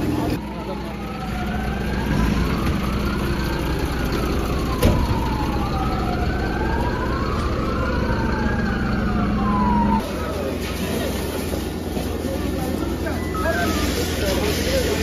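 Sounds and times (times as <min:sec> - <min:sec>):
emergency sirens wailing: 0:00.0 - 0:10.6, 0:11.2 - 0:15.0
fire engine engine drone: 0:00.0 - 0:15.0.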